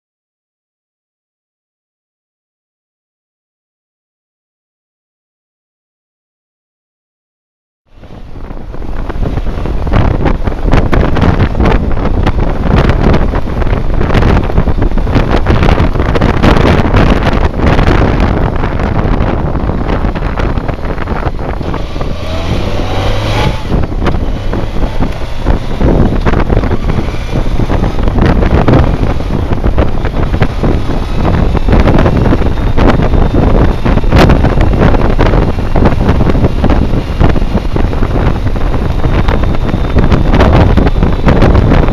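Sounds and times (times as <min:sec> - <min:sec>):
wind buffeting on microphone: 0:07.9 - 0:41.9
motorcycle engine running: 0:08.0 - 0:41.9.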